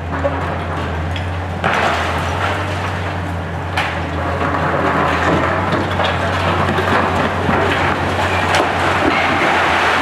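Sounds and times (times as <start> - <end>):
debris crunching and clattering: 0.0 - 10.0
excavator diesel engine droning: 0.0 - 10.0
concrete cracking: 0.1 - 10.0.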